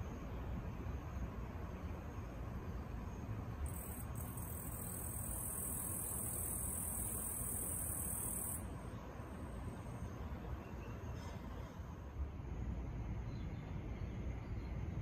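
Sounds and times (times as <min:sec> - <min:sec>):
insect calling: 0:00.0 - 0:12.1.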